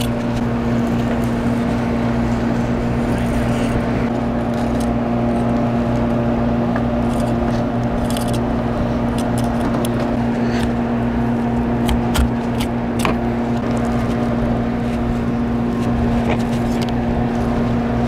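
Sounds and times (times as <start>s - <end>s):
boat machinery humming: 0.0s - 18.0s.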